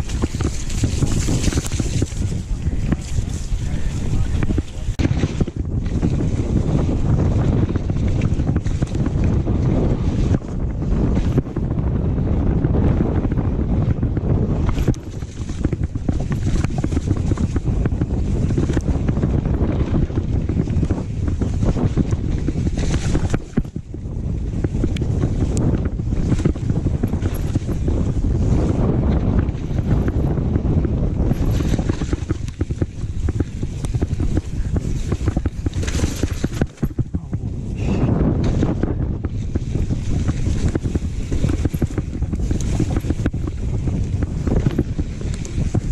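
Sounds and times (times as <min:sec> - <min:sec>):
bike rattling over rough trail: 0:00.0 - 0:45.9
wind buffeting microphone: 0:00.0 - 0:45.9.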